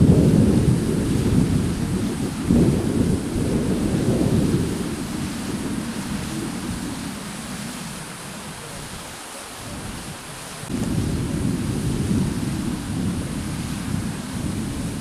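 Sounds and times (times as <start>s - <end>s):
low uneven rumble: 0.0s - 15.0s
water running and splashing: 0.0s - 15.0s.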